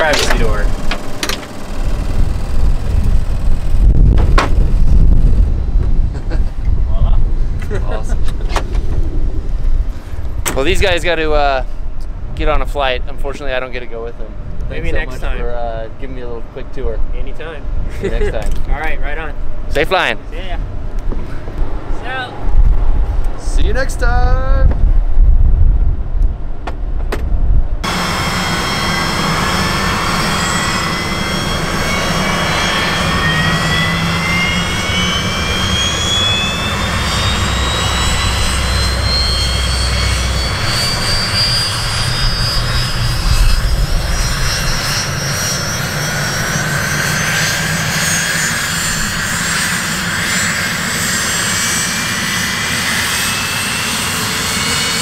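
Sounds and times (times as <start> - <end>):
jet engines spooling up: 0.0 - 13.5, 19.0 - 24.8, 27.8 - 55.0.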